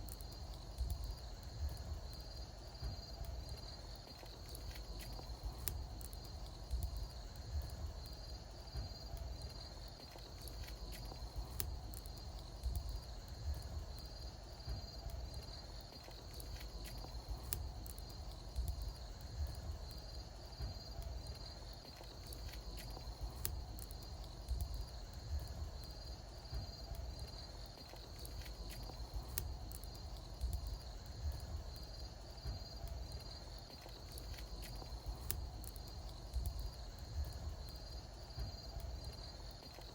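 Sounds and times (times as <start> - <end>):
bonfire crackling and popping: 0.0 - 39.9
insects chirping in a trill: 0.0 - 39.9
low rumble of flames: 0.0 - 39.9.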